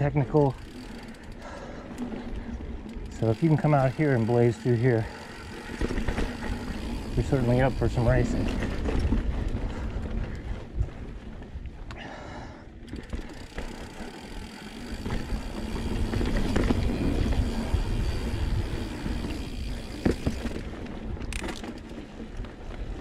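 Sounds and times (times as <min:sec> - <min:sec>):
bike rattling over bumps: 0:00.0 - 0:23.0
bike tyre rumble on dirt: 0:00.0 - 0:23.0.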